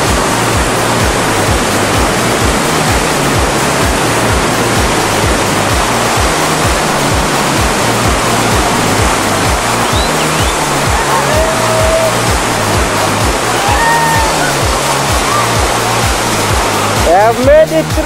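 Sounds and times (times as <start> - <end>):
music with steady bass beat: 0.0 - 18.0
roar of whitewater rapids: 0.0 - 18.0.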